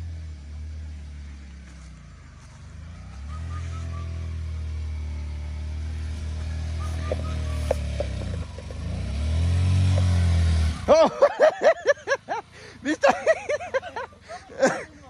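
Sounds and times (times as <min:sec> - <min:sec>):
motorcycle engine approaching: 0:00.0 - 0:15.0.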